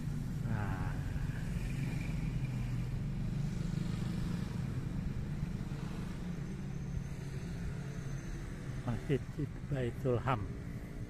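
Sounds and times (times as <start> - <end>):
motor traffic rumble: 0.0 - 11.0.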